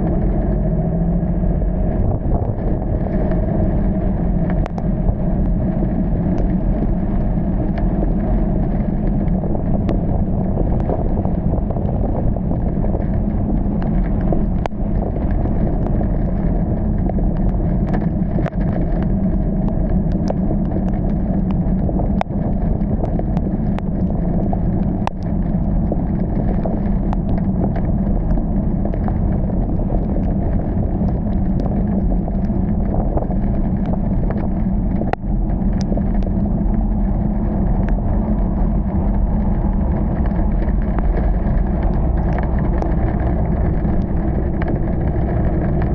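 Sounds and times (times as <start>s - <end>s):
car engine and tyre noise: 0.0s - 45.9s
heavy rain: 0.0s - 45.9s.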